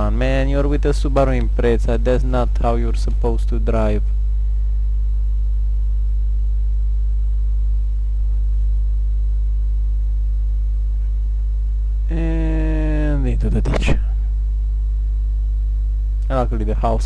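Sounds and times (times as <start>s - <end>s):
loud low hum: 0.0s - 17.0s.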